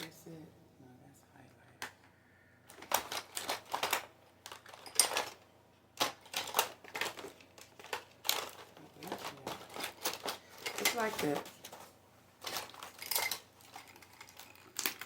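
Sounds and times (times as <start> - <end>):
makeup cases clacking and rustling: 2.7 - 15.0.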